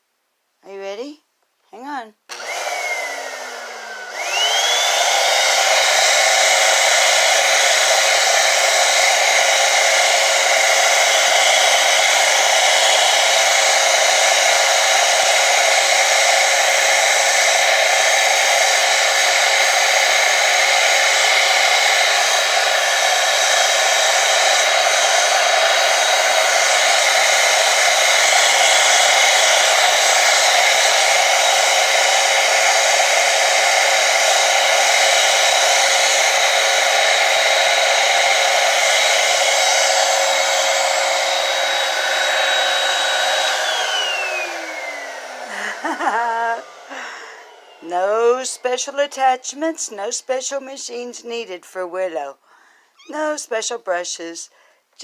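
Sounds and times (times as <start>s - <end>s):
vacuum cleaner running: 2.3s - 51.4s, 53.0s - 53.8s.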